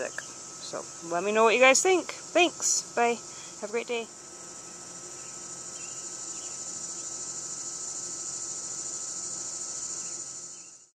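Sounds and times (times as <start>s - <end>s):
insects trilling: 0.0s - 10.9s.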